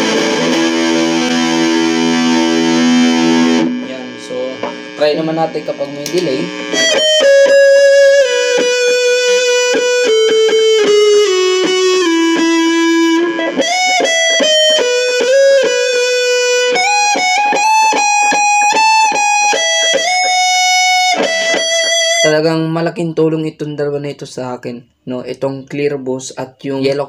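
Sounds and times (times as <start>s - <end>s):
electric guitar melody with delay: 0.0s - 22.6s.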